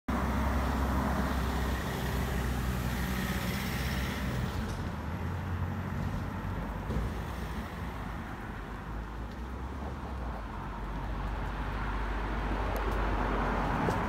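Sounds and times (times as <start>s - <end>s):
vehicle engine rumble: 0.1s - 14.0s.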